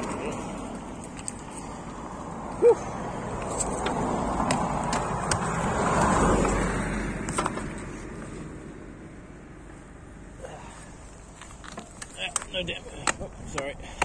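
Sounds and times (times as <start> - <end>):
car passing: 0.0 - 11.3.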